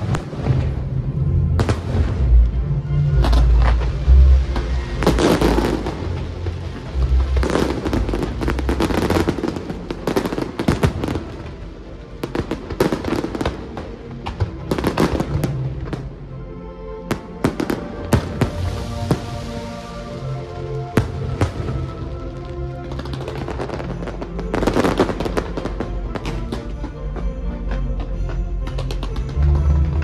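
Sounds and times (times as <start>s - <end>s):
fireworks bursting and crackling: 0.0s - 16.2s, 17.1s - 30.0s
music playing: 0.0s - 30.0s.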